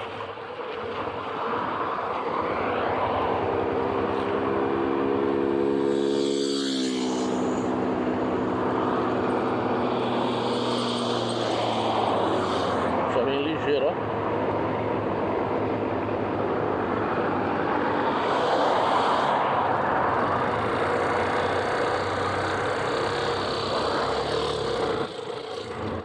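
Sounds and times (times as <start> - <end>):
wind and road noise: 0.0 - 26.0
heavy vehicle passing: 1.4 - 26.0.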